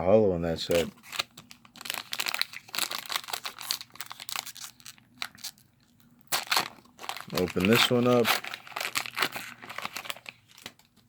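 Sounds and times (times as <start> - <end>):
foil wrapper crinkling: 0.6 - 11.0.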